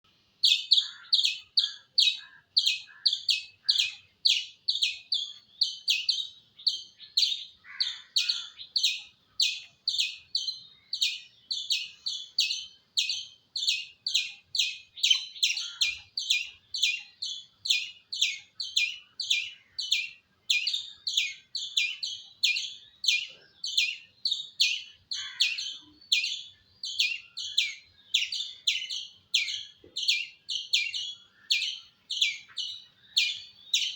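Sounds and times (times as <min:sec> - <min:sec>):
squirrel chirping: 0:00.4 - 0:33.9.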